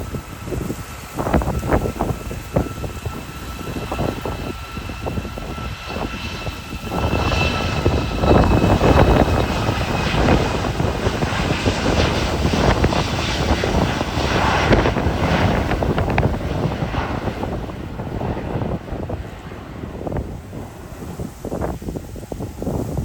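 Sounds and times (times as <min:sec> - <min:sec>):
jet engines whining and rumbling: 0:00.0 - 0:23.0.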